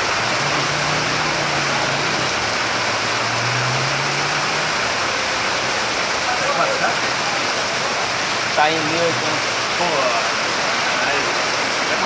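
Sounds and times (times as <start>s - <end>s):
car engines passing: 0.0s - 12.0s
heavy rain pouring: 0.0s - 12.0s.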